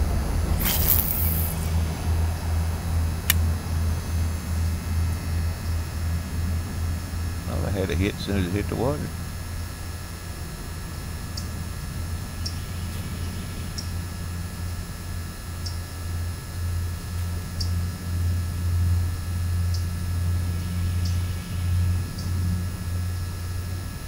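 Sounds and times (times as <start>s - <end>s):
propeller aircraft drone: 0.0s - 24.0s.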